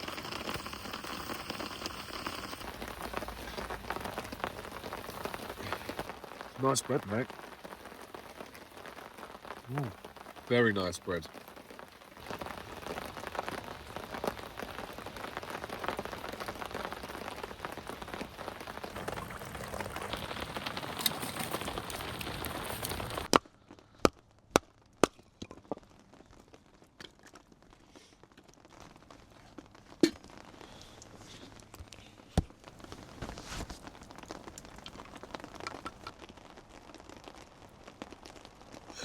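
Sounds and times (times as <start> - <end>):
rain hissing: 0.0 - 23.3, 29.0 - 39.0
campfire pops and cracks: 0.0 - 39.0.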